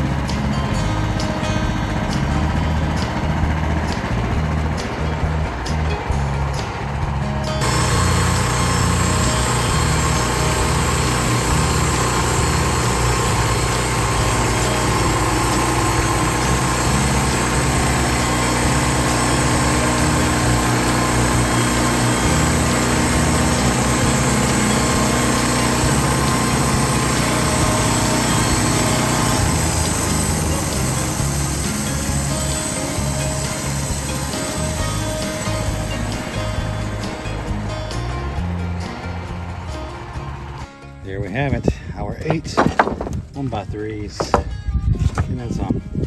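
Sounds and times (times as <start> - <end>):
gasoline engine running: 0.0 - 46.0.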